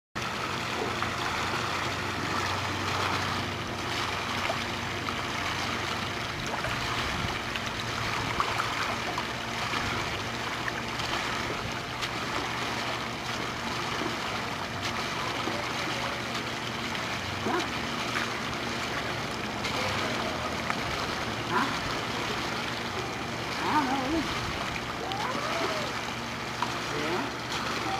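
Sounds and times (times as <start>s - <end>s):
low hum: 0.2s - 27.9s
pool water lapping: 0.2s - 27.9s.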